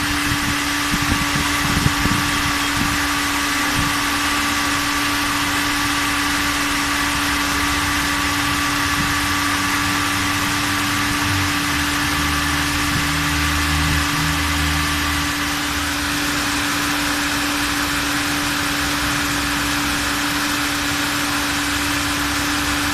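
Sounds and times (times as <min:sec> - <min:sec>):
car engine idling: 0:00.0 - 0:22.9
radiator cooling fan whirring: 0:00.0 - 0:22.9.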